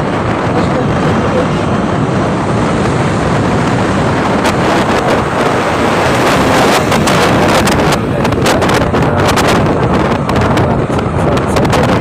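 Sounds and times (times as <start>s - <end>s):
road noise: 0.0s - 12.0s
vehicle engine: 0.0s - 12.0s
wind rushing over microphone: 0.0s - 12.0s.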